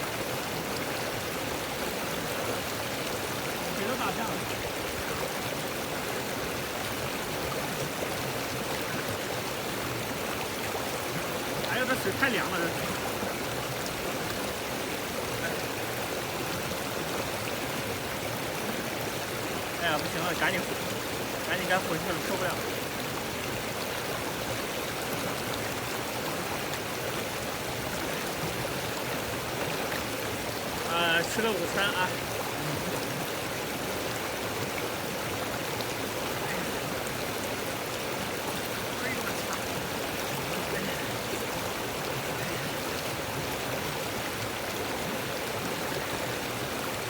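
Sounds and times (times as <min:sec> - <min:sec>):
river flowing: 0:00.0 - 0:47.0
stream rushing over rocks: 0:00.0 - 0:47.0.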